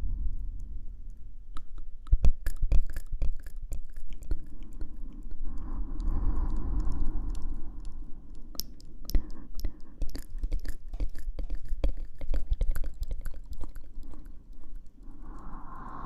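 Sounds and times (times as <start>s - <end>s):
wet mouth clicks and smacks: 1.5s - 15.6s.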